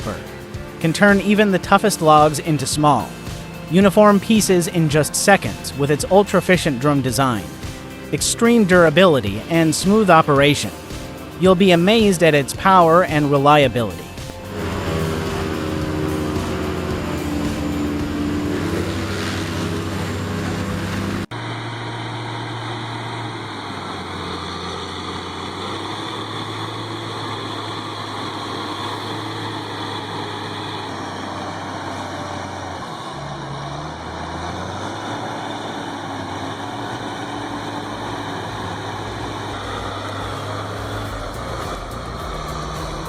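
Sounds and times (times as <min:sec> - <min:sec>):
heavy machine engine running: 0:00.0 - 0:43.0.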